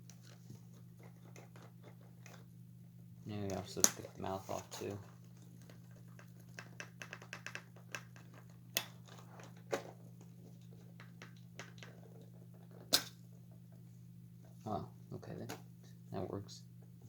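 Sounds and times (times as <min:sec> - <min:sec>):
steady low hum: 0:00.0 - 0:07.0, 0:07.6 - 0:17.0.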